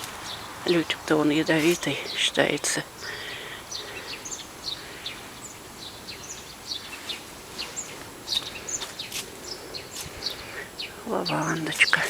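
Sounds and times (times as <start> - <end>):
faint outdoor hiss: 0.0 - 12.0
small songbirds chirping: 0.0 - 12.0.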